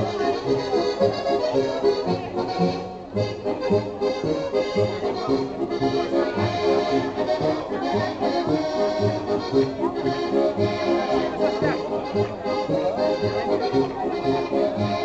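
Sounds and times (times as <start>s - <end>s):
accordion folk dance music: 0.0s - 15.0s.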